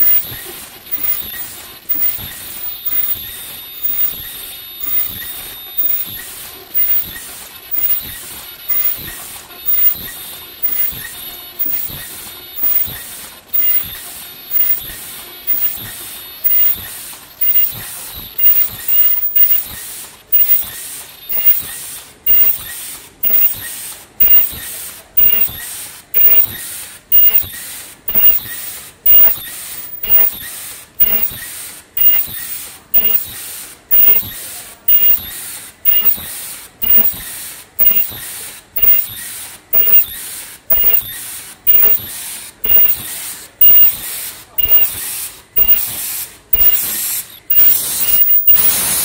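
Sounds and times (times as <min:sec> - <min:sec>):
machine hissing air bursts: 0:00.0 - 0:49.0
machine mechanical clack: 0:00.0 - 0:49.0.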